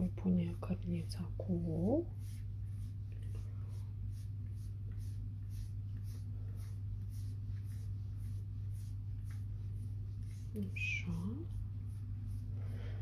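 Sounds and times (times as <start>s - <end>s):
steady low hum: 0.0s - 13.0s
pastry brush swishing: 0.3s - 13.0s.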